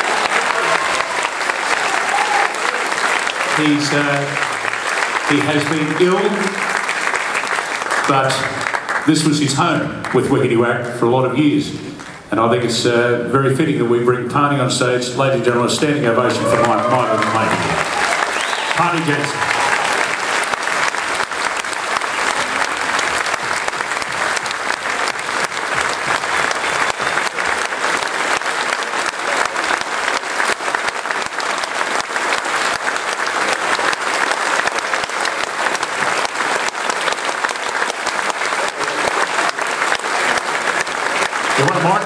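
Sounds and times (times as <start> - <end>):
audience applauding: 0.0 - 10.7, 12.0 - 12.6, 15.8 - 42.0.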